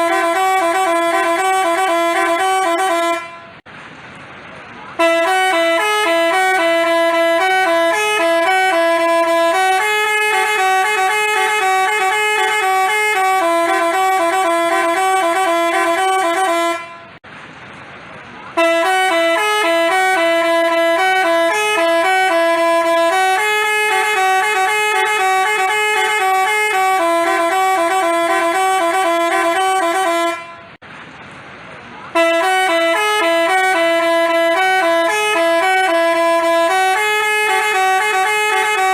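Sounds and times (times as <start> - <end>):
multi-tone bus horn tune: 0.0 - 3.7, 4.9 - 17.2, 18.5 - 30.8, 32.1 - 38.9.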